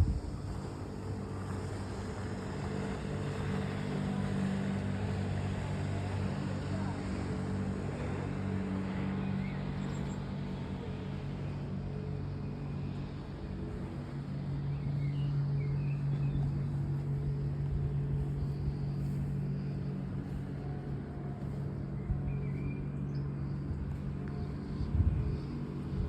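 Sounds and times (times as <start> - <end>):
motorboat engine droning: 0.0 - 26.0.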